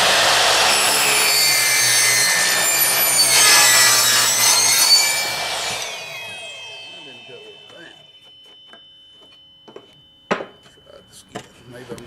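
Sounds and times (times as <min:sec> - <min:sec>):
saw blade winding down: 0:00.0 - 0:09.8
miter saw cutting wood: 0:00.0 - 0:12.0.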